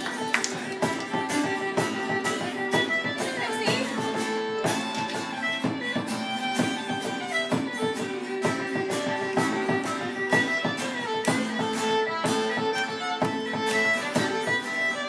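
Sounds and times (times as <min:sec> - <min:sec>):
acoustic guitar: 0:00.0 - 0:15.0
fiddle dance tune: 0:00.0 - 0:15.0.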